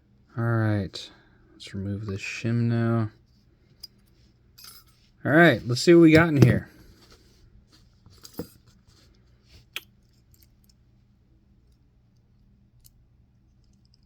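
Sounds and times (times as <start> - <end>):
faint background hum: 0.0 - 14.0.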